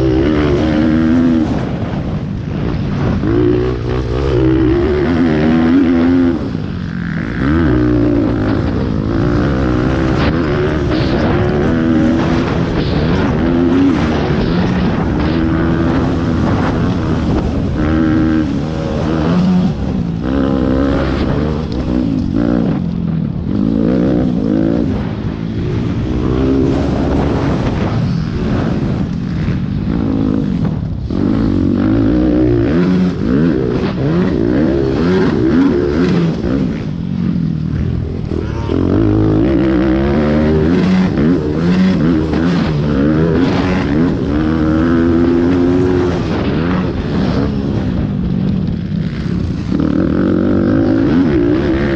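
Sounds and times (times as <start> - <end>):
pit bike engine racing: 0.0 - 51.9.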